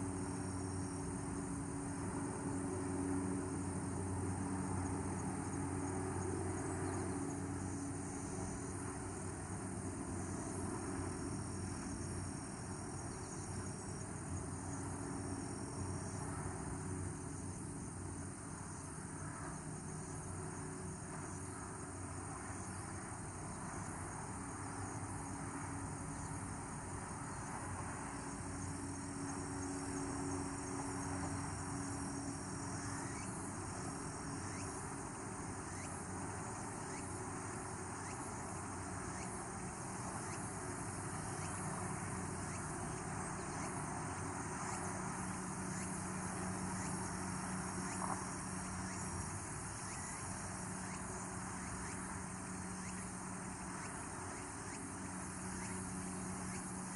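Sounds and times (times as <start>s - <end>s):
distant traffic hum: 0.0s - 56.9s
insects chirring: 0.0s - 56.9s.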